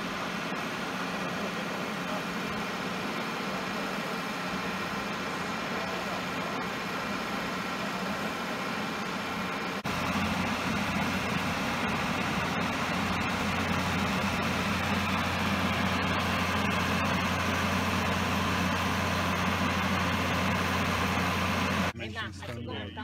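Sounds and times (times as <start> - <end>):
quarry machinery humming: 0.0 - 22.0.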